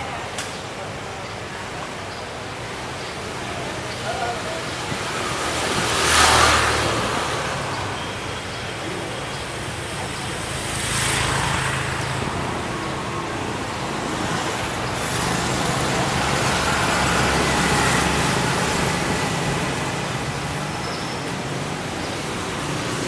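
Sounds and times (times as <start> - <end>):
motor scooters passing: 1.5 - 23.0.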